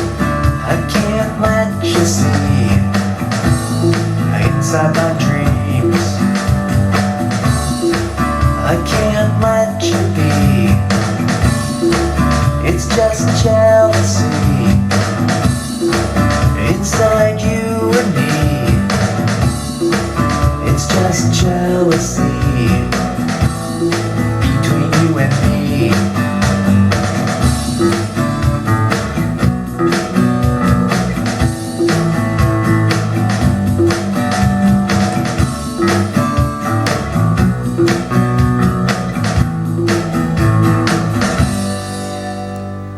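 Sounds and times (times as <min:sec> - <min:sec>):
blues-rock instrumental music: 0:00.0 - 0:42.9.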